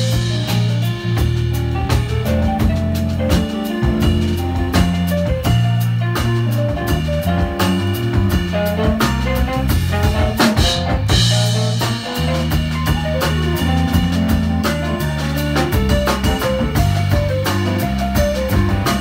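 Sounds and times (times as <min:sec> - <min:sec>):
drum kit: 0:00.0 - 0:19.0
electric bass line: 0:00.0 - 0:19.0
keyboard: 0:00.0 - 0:19.0.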